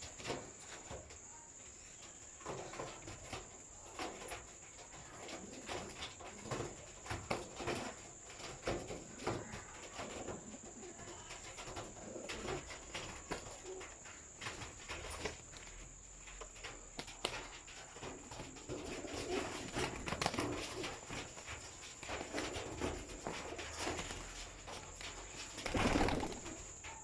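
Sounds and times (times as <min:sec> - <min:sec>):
birds scuffling clicks and knocks: 0:00.0 - 0:27.0.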